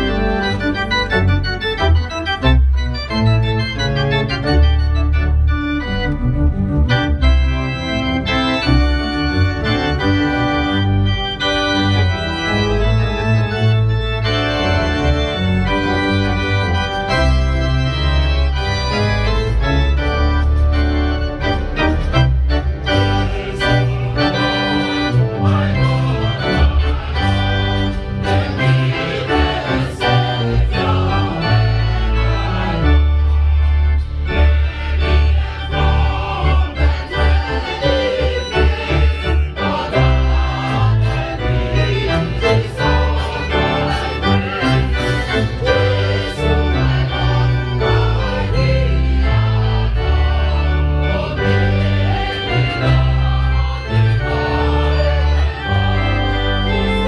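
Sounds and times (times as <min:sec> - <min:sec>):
deep organ bass notes: 0:00.0 - 0:57.0
organ chords: 0:00.0 - 0:57.0.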